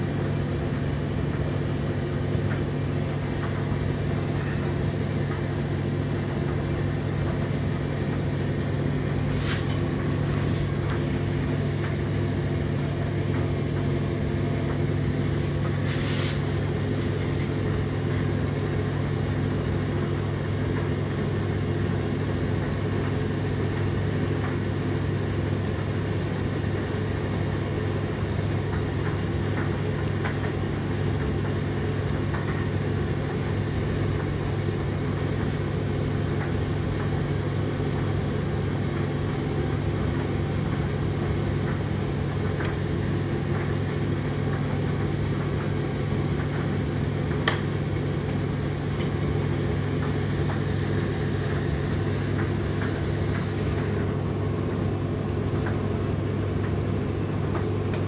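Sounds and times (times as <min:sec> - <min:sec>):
tumble dryer motor hum: 0:00.0 - 0:58.0.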